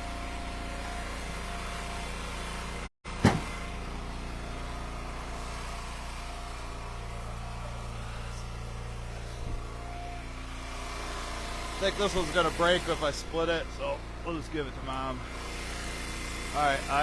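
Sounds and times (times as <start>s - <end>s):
wood splitter engine running: 0.0s - 17.0s.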